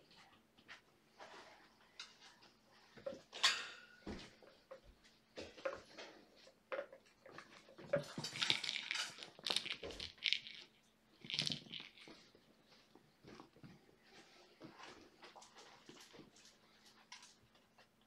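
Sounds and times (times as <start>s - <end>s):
kittens rustling and tapping toys: 0.0s - 18.0s.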